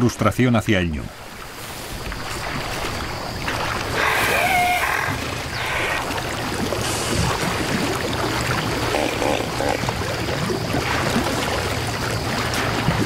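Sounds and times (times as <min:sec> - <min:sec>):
water splashing and churning: 0:00.9 - 0:13.0.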